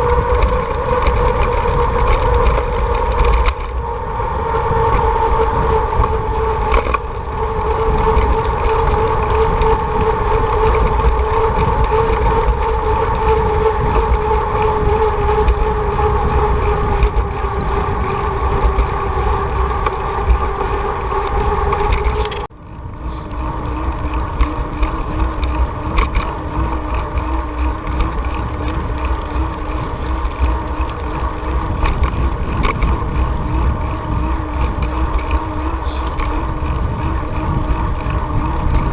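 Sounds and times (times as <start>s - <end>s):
humming drone: 0.0s - 38.9s
wind rumble on microphone: 0.0s - 38.9s.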